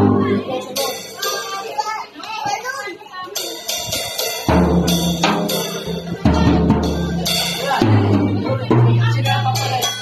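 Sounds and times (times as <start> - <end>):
child playing drum kit: 0.0 - 2.6, 3.2 - 10.0.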